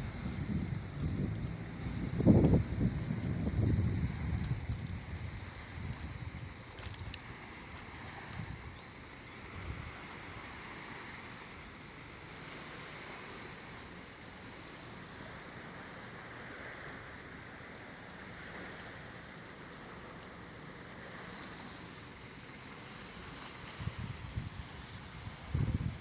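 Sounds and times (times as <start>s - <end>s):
water rushing past boat: 0.0s - 26.0s.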